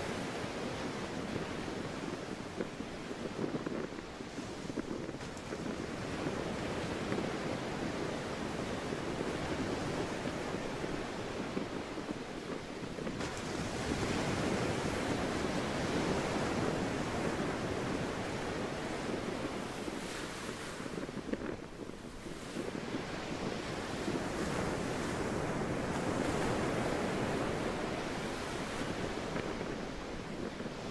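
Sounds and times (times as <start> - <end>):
wind blowing on microphone: 0.0 - 30.9.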